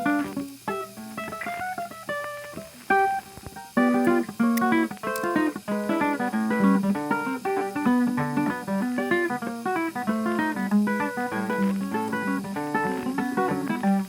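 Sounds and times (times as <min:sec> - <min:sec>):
guitar plucking quick notes: 0:00.0 - 0:14.0.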